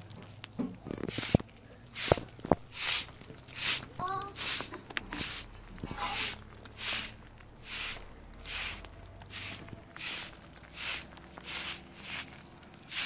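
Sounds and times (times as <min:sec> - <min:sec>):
broom sweeping concrete: 0:01.0 - 0:13.0.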